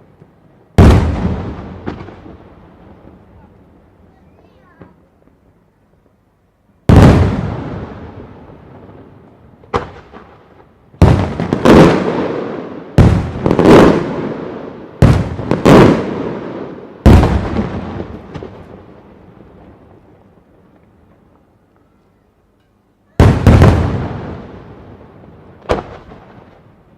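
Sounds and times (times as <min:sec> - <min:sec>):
fireworks booming with echo: 0:00.0 - 0:06.2, 0:06.8 - 0:22.0, 0:23.0 - 0:26.9.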